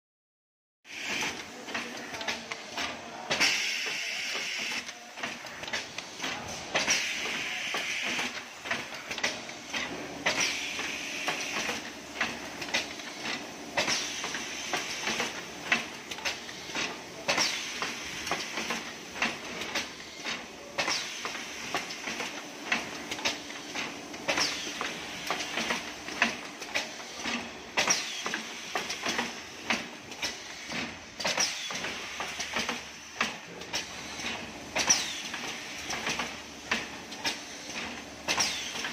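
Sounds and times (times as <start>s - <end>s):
machine clicking and clacking: 1.0s - 38.9s.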